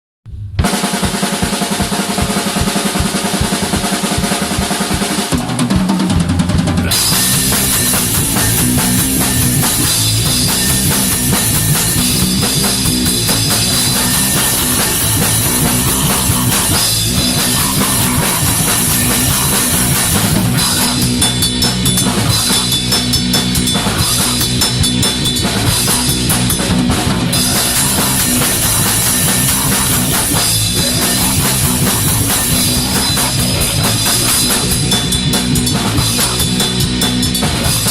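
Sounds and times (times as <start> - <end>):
rapid drumming: 0.3 - 37.9
loud heavy band music: 0.5 - 37.9.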